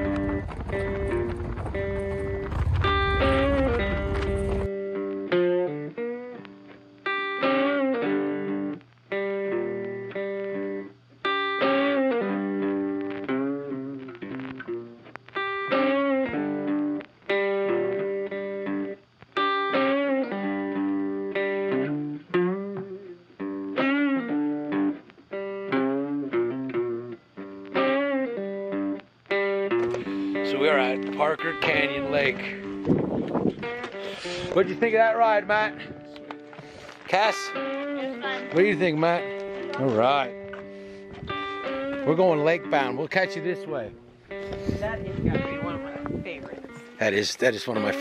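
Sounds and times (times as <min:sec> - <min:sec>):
electric guitar playing: 0:00.0 - 0:48.0.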